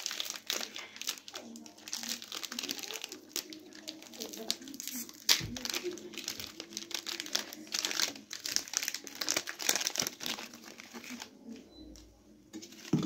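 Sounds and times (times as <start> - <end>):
wrappers crackling and rustling: 0.0 - 12.0, 12.6 - 13.0.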